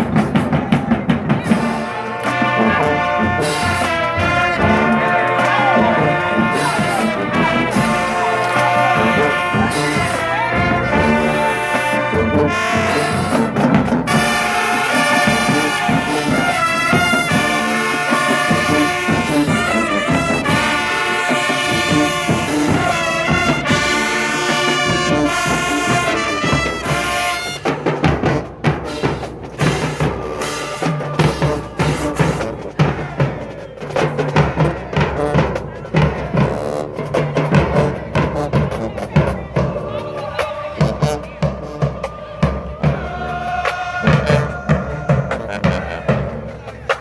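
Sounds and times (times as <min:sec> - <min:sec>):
brass section playing a tune: 0:00.0 - 0:46.5
marching drums: 0:00.0 - 0:47.0.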